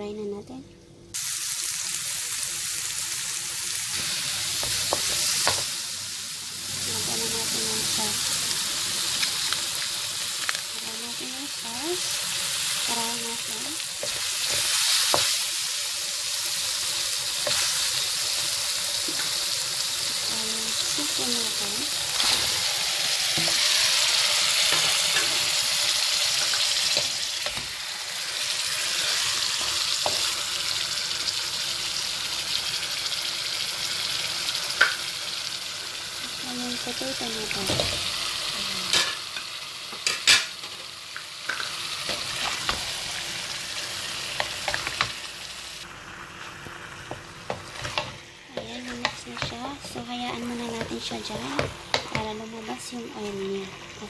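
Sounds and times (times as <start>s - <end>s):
curry paste sizzling in a wok: 1.1s - 54.0s.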